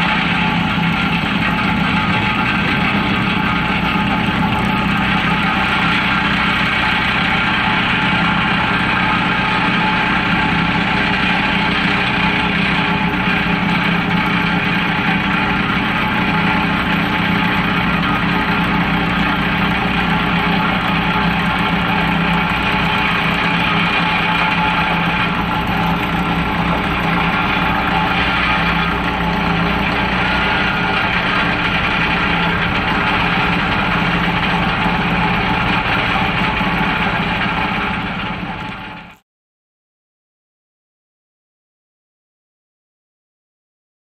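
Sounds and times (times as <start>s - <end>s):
excavator diesel engine running: 0.0s - 39.2s.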